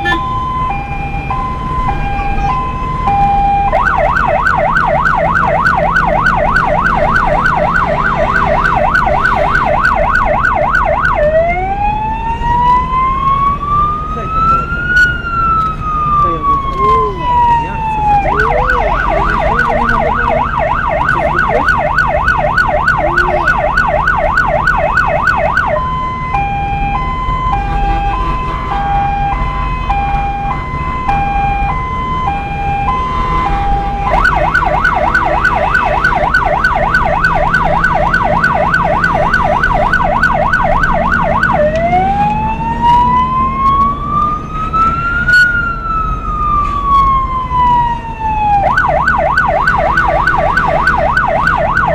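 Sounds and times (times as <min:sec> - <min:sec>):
emergency siren: 0:00.0 - 0:51.9.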